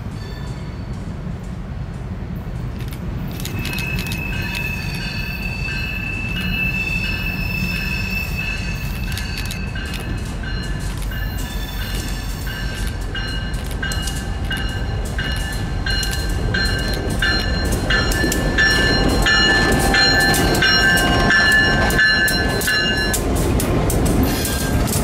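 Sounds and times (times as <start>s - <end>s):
locomotive bell ringing: 0.0s - 1.1s, 3.4s - 23.5s, 24.2s - 25.0s
train engine rumble: 0.0s - 25.0s.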